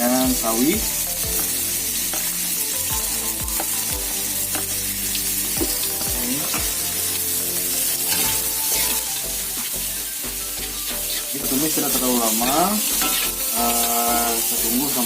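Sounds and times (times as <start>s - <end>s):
background music with bass beat: 0.0s - 15.0s
vegetables sizzling in hot oil: 0.0s - 15.0s.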